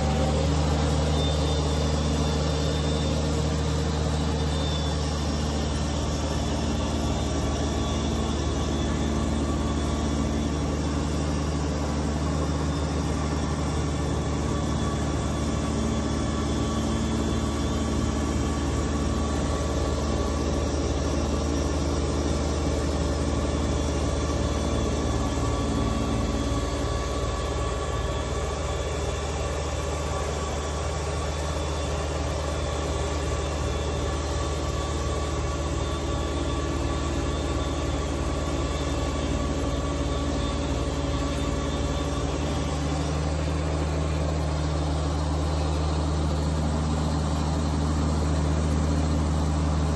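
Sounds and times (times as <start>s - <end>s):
diesel tractor engine running: 0.0s - 49.9s.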